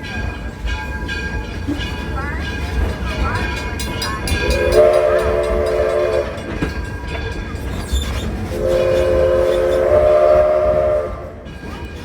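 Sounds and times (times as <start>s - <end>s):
moving train rumble: 0.0s - 12.0s
steam locomotive chime whistle: 0.0s - 12.0s.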